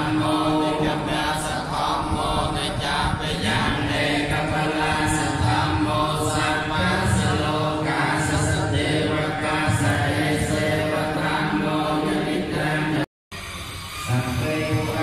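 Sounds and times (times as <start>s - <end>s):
amplified chanting voice: 0.0s - 13.1s, 14.1s - 15.0s
monks chanting in unison: 0.0s - 13.1s, 14.1s - 15.0s.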